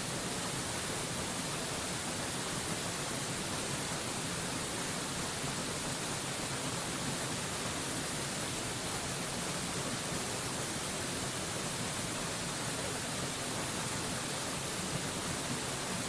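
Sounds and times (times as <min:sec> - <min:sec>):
waterfall rushing: 0:00.1 - 0:16.0.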